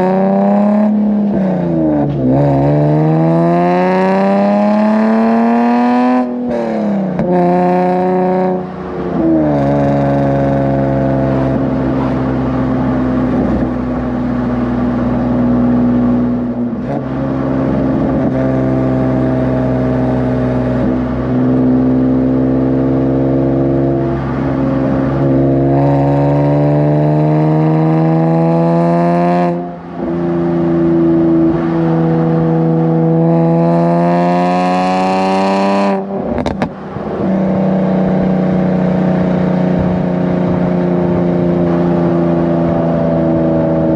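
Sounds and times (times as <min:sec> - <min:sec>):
car engine accelerating through gears: 0:00.0 - 0:43.9.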